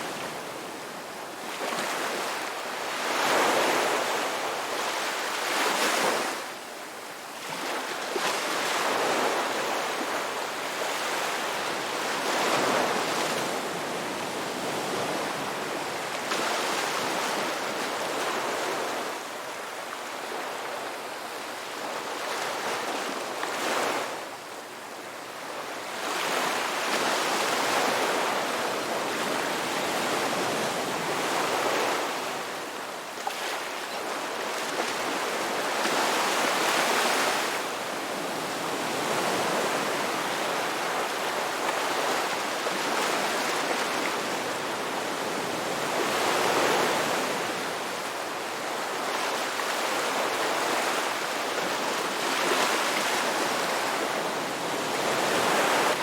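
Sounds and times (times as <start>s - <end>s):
ocean waves breaking on shore: 0.0s - 56.0s.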